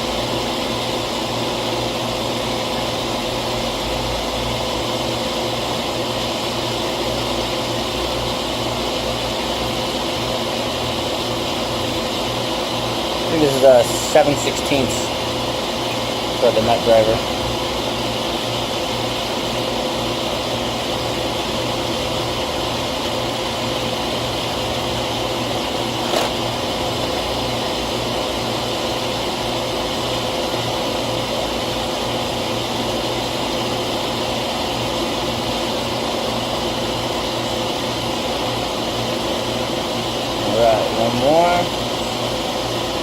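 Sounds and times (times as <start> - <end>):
machine humming: 0.0 - 43.0.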